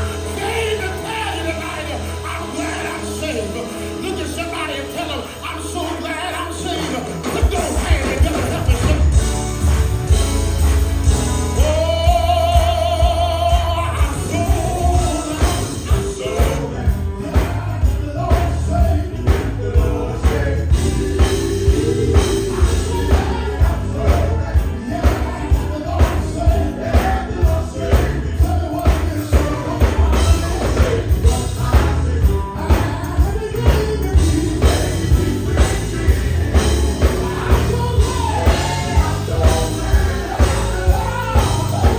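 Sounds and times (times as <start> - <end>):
gospel singing with band: 0.0 - 41.9
bass and drums beat: 7.2 - 41.9.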